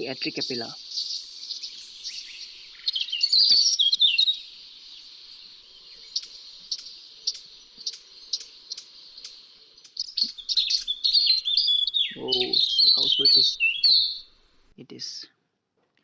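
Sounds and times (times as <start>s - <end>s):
bird warbling song: 0.0s - 14.7s
short sharp bird calls: 0.0s - 14.9s
steady high hiss: 0.0s - 15.3s.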